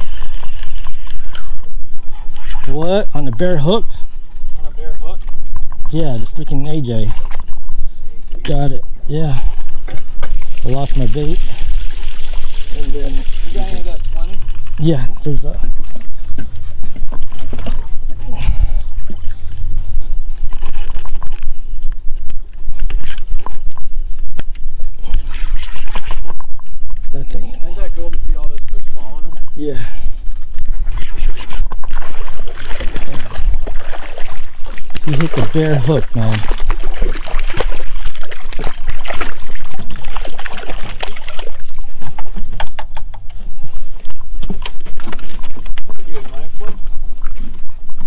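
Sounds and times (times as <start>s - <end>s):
water splashing against hull: 0.0s - 48.0s
wind on microphone: 0.0s - 48.0s.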